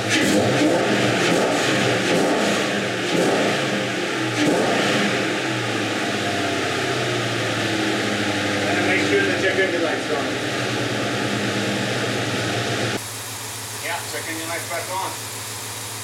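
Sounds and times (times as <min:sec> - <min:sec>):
misfiring car engine: 0:00.0 - 0:16.0.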